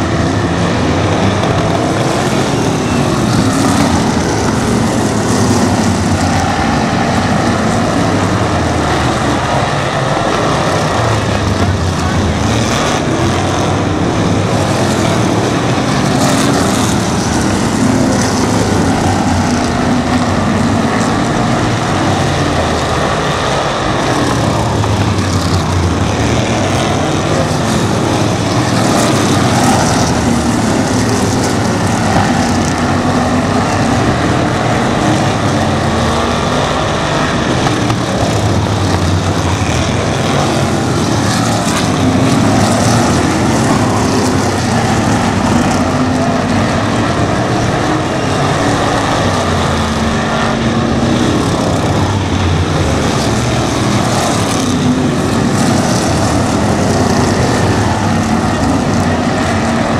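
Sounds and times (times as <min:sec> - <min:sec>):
race car engines at high revs: 0:00.0 - 0:59.9.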